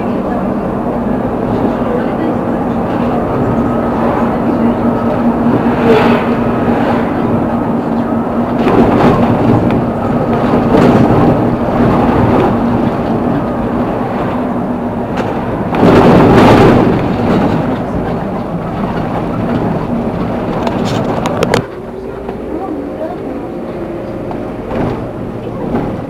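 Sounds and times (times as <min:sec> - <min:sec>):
oncoming car passing: 0:00.0 - 0:26.0
vehicle wind and road noise: 0:00.0 - 0:26.0.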